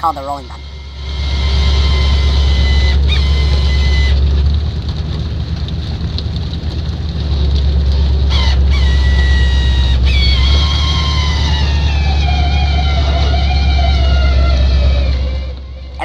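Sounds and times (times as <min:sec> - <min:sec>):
high squealing whine: 0:00.0 - 0:16.0
hydraulic winch drone: 0:00.5 - 0:16.0.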